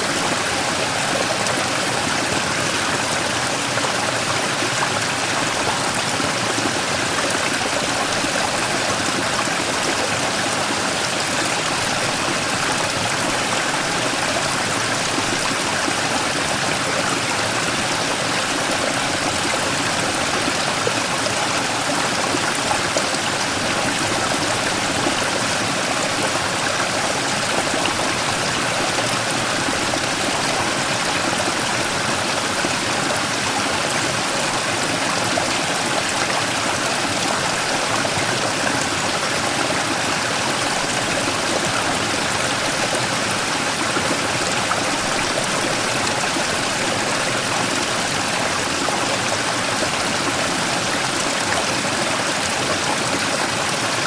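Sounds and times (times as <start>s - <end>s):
stream rushing over rock: 0.0s - 54.0s.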